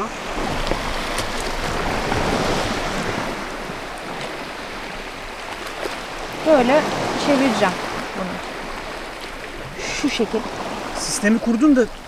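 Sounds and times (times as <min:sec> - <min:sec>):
waves washing onto pebble beach: 0:00.0 - 0:11.8.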